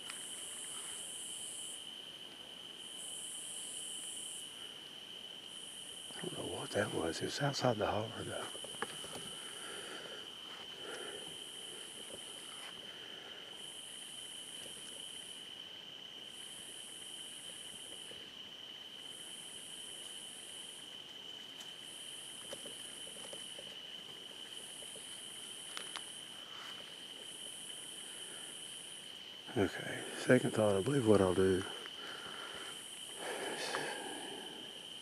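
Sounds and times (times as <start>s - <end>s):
buzzy insect song: 0.0s - 35.0s
insect high-pitched trill: 0.0s - 35.0s.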